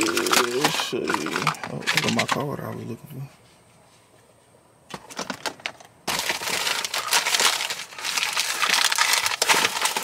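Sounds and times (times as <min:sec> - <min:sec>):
crinkling and rustling items: 0:00.0 - 0:03.0, 0:03.8 - 0:10.0.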